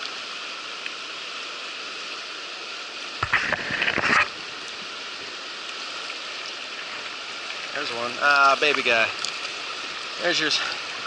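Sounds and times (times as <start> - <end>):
fast-flowing river rushing: 0.0 - 11.0.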